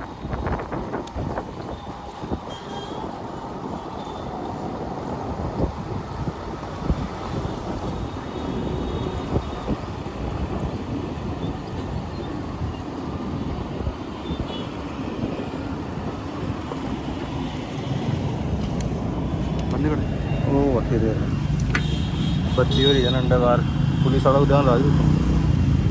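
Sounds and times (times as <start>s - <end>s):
wind buffeting microphone: 0.0s - 24.0s, 24.7s - 25.9s.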